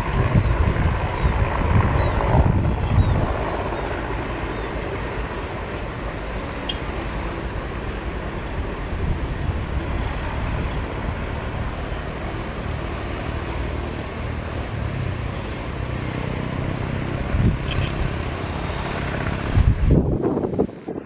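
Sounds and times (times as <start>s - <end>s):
jet engines landing: 0.0s - 21.0s.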